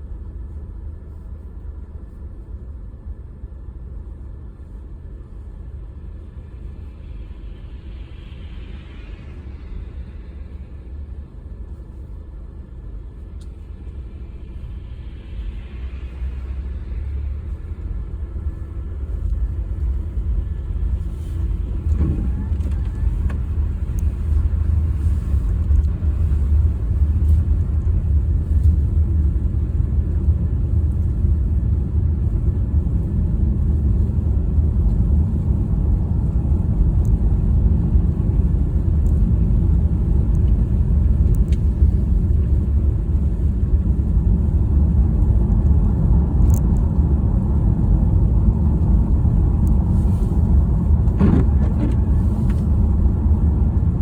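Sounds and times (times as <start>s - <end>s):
car driving rumble in cabin: 0.0s - 54.0s.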